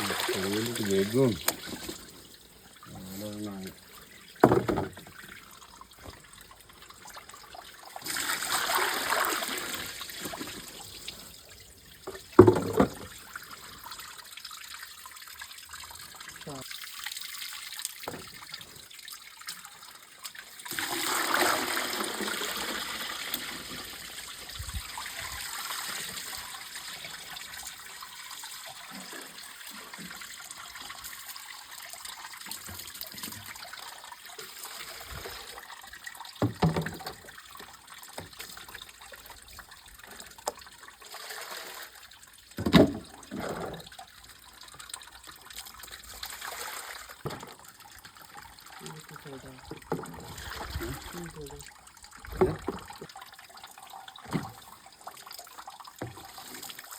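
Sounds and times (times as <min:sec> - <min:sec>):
running water rushing: 0:00.0 - 0:14.1, 0:14.7 - 0:42.0, 0:42.6 - 0:55.3.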